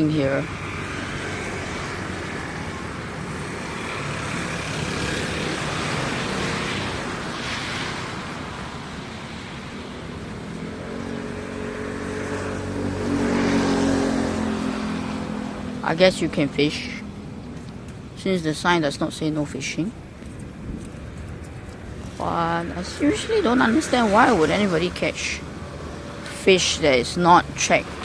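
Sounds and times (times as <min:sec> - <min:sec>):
road traffic noise: 0:00.0 - 0:28.0
vehicle engine passing: 0:00.0 - 0:28.0.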